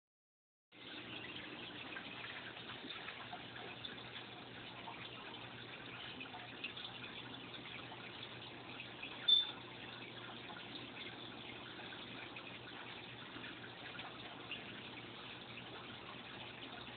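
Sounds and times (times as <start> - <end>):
aquarium water bubbling: 0.7 - 16.9.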